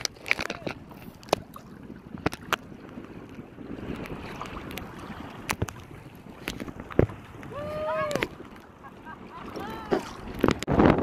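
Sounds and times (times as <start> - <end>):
water lapping against kayak hull: 0.0 - 11.0
wind on microphone: 0.0 - 11.0.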